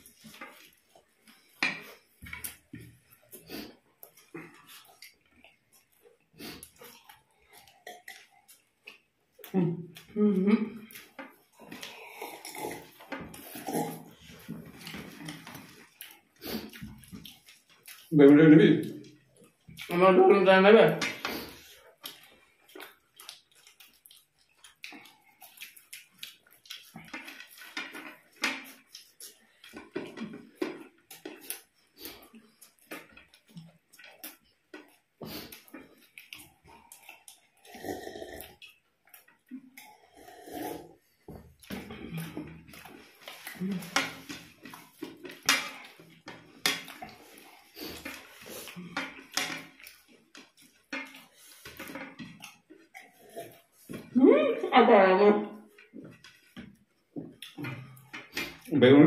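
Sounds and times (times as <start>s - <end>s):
crunching and chewing: 0.0s - 10.1s, 10.7s - 18.2s, 21.2s - 54.2s
fingers mixing food on plates: 0.0s - 58.8s.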